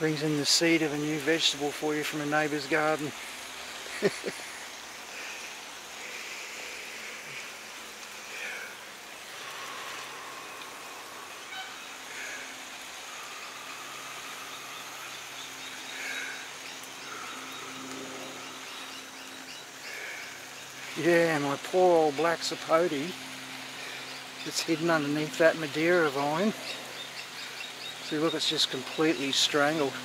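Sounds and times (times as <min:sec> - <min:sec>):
birds calling: 0:00.0 - 0:30.0.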